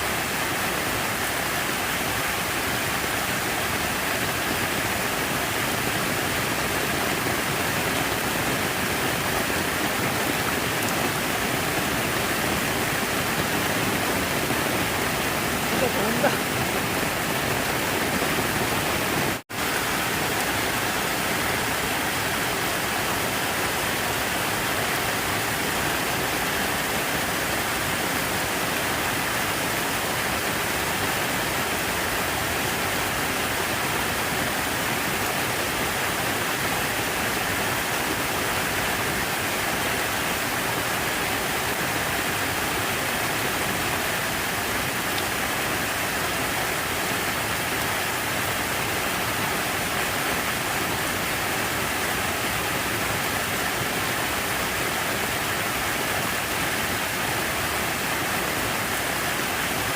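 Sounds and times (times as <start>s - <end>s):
falling water rushing: 0.0s - 59.9s.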